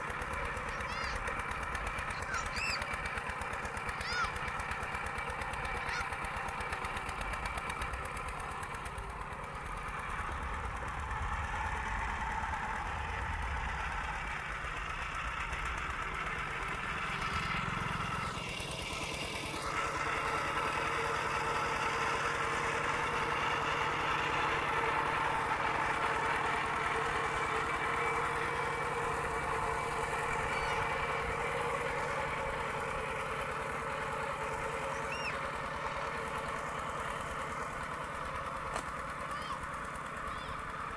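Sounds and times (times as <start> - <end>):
diesel engine knocking under load: 0.0 - 40.9.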